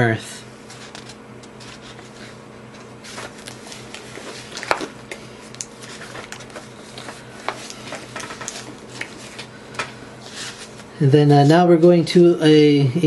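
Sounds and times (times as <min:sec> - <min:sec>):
low electrical hum: 0:00.0 - 0:13.0
paper rustling: 0:00.6 - 0:11.9.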